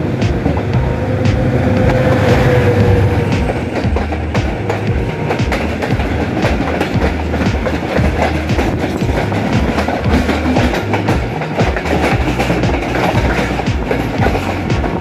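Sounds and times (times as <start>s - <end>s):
train coaches rumbling past: 0.0s - 15.0s
wheels clacking over rail joints: 0.0s - 15.0s.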